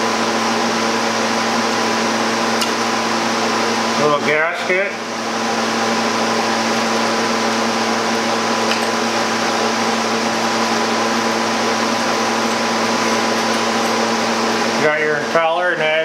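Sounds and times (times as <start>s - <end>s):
chiller mechanical hum: 0.0s - 16.0s.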